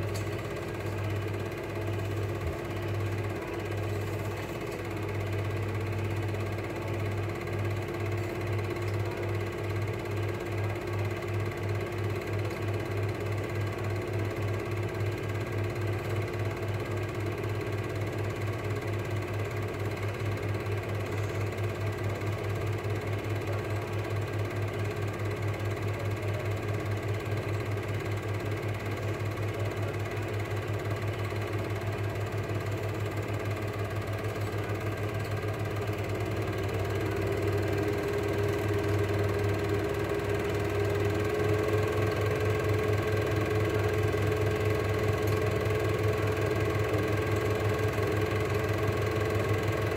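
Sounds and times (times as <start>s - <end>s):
film projector running: 0.0s - 49.9s.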